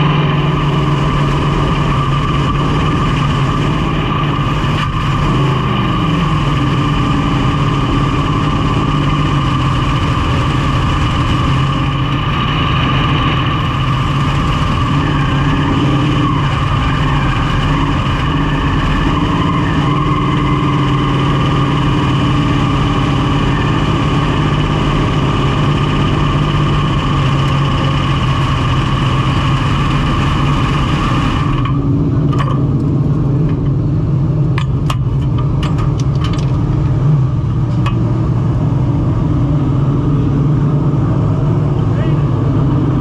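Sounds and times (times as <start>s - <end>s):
race car engine idling: 0.0s - 43.0s.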